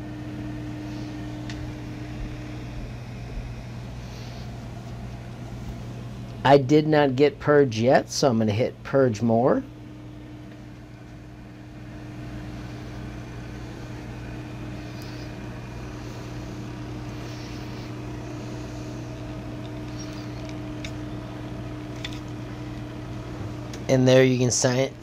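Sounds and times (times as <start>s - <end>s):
printer fans and motors humming: 0.0s - 25.0s.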